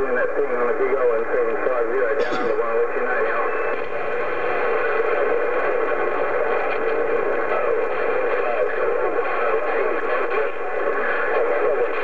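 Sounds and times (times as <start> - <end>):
muddy radio transmission: 0.0 - 12.0.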